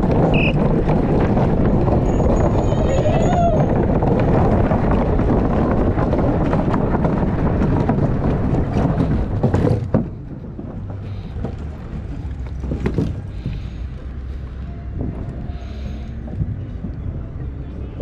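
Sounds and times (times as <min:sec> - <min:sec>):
low rumble: 0:00.0 - 0:18.0
wind rushing over microphone: 0:00.0 - 0:18.0.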